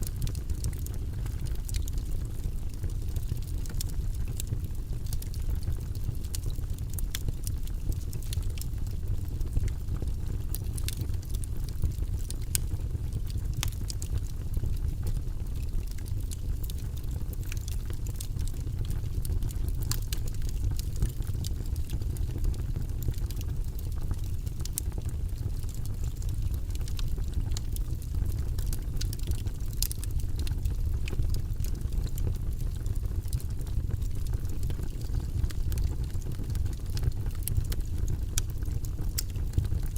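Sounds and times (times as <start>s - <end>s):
logs crackling and popping: 0.0s - 39.9s
low roar of flames: 0.0s - 39.9s.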